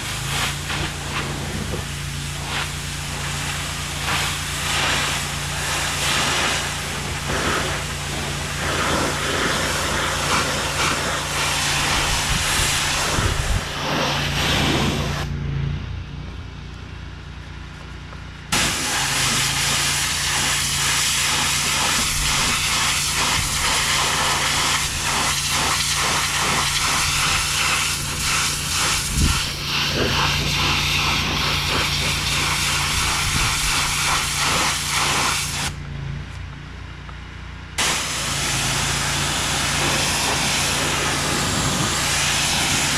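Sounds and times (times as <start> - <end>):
high-pressure spray hissing: 0.0 - 15.3, 18.5 - 35.8, 37.8 - 42.9
pressure washer engine hum: 0.0 - 42.9.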